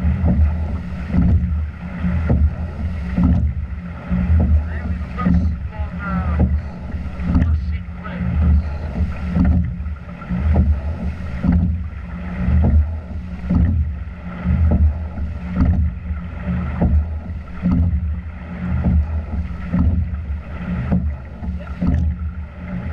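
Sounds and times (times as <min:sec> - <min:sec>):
low steady rumble: 0:00.0 - 0:22.9
oars knocking and splashing: 0:00.0 - 0:22.9.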